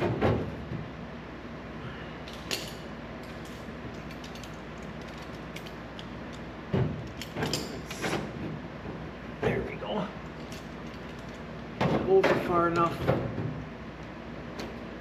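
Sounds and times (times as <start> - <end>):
steady shop noise: 0.0 - 15.0.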